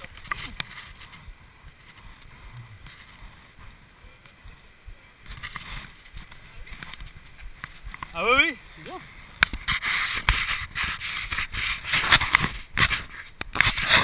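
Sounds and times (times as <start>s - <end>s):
small clicks and rustles: 0.0s - 4.5s, 5.2s - 8.2s, 9.4s - 14.0s
wind rumbling on microphone: 0.0s - 14.0s.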